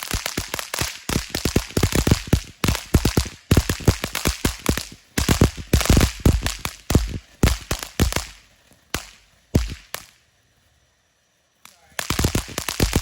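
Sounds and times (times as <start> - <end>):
fireworks bangs and cracks: 0.0 - 10.3, 11.6 - 13.0.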